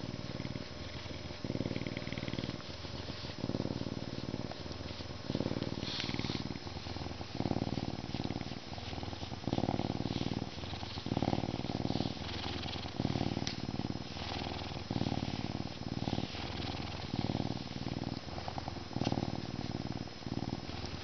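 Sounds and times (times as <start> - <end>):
lynx purring: 0.0 - 21.0.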